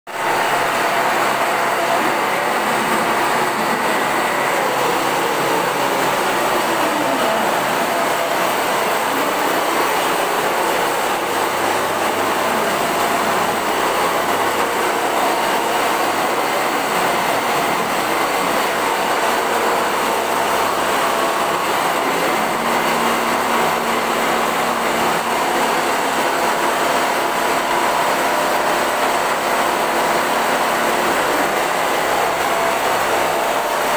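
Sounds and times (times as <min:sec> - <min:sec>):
quilting machine running: 0:00.1 - 0:33.9.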